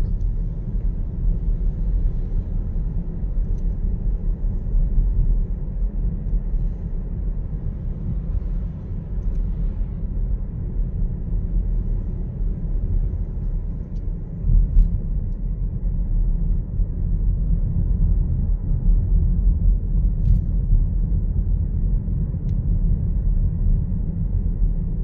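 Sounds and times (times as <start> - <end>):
car driving rumble from inside: 0.0 - 25.0.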